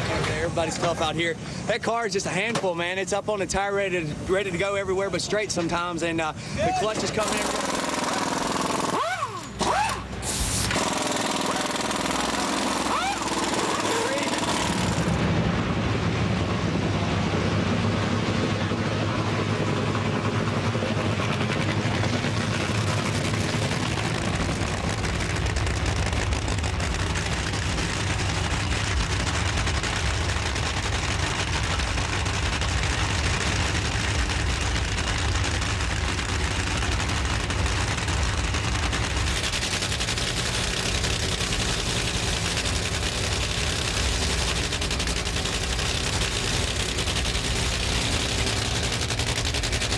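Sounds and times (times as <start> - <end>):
drag racing engines crackling: 0.0 - 49.9.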